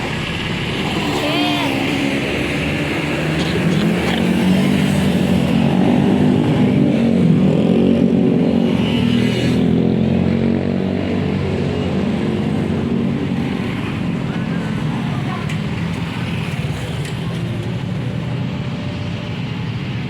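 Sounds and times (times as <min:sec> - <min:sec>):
vehicle engines droning: 0:00.0 - 0:20.0.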